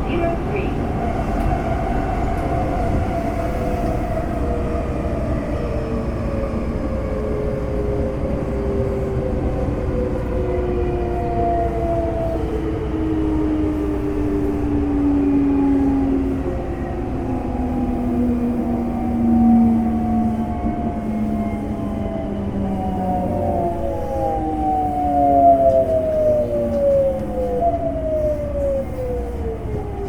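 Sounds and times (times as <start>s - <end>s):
wheel and rail rumble: 0.0s - 30.0s.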